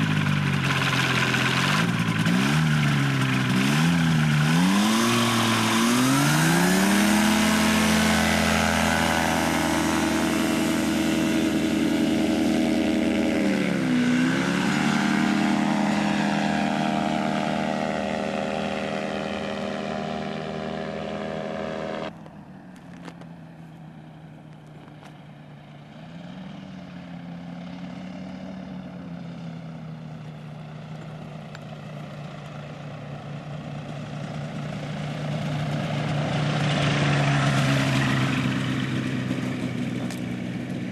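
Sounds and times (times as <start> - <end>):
propeller engine running hard: 0.0 - 40.9.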